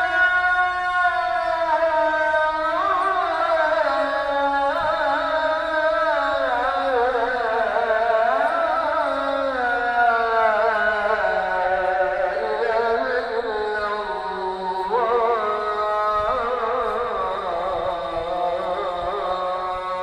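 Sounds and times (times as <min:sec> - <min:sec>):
solo voice chanting: 0:00.0 - 0:20.0.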